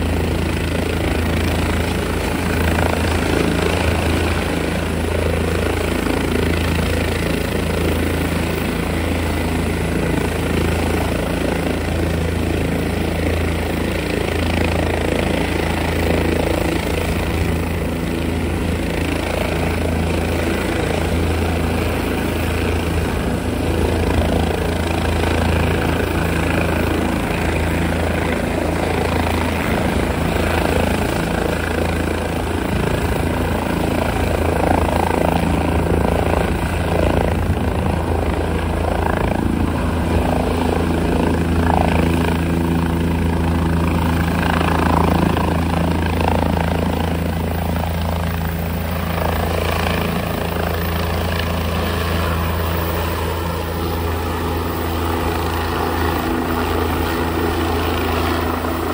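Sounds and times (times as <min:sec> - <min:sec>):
helicopter rotor beat: 0:00.0 - 0:58.9
helicopter turbine noise: 0:00.0 - 0:58.9.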